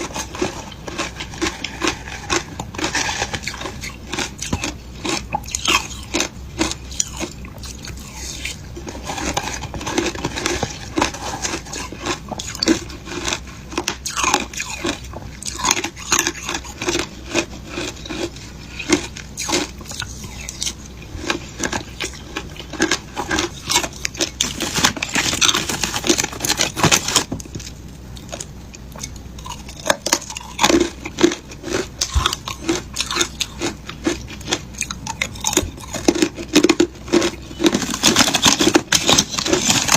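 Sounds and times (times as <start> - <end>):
chewing crunchy shaved ice: 0.0 - 39.9.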